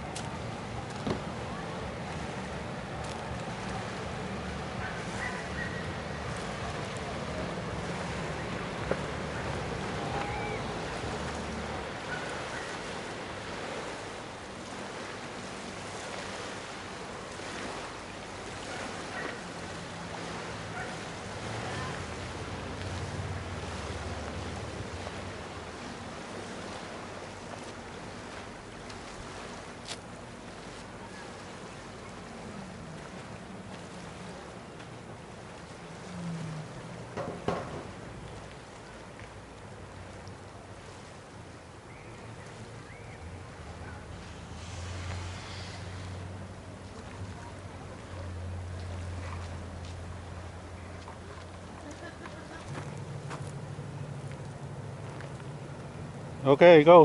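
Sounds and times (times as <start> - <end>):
distant motorboat engine: 0.0 - 57.0
lake water lapping: 0.0 - 57.0.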